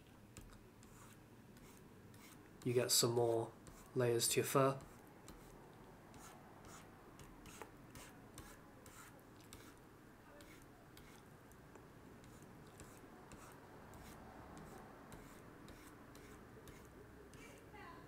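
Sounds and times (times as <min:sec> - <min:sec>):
stylus scratching on graphics tablet: 0:00.4 - 0:11.3, 0:12.2 - 0:17.7.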